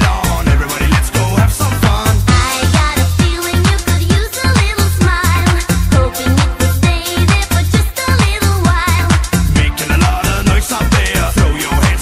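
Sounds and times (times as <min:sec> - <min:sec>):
dance music with kick drum: 0:00.0 - 0:12.0.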